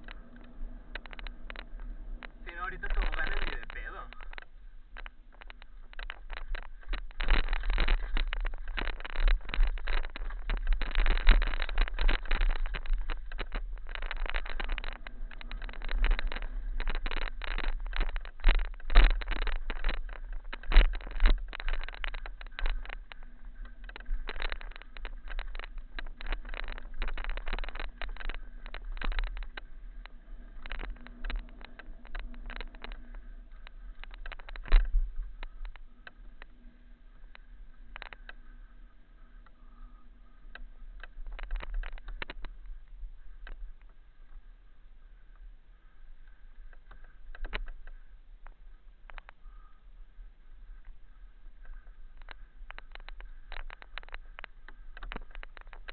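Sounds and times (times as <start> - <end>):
low rumble of wind: 0.0 - 55.9
mountain bike rattling on rocks: 0.0 - 55.9.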